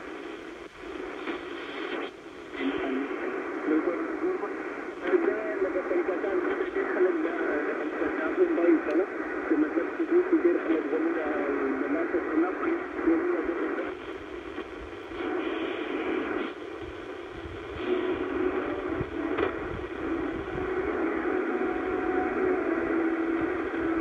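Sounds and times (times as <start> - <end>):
faint radio broadcast: 0.0 - 24.0
shortwave radio hiss: 0.0 - 24.0
static clicks: 0.0 - 24.0.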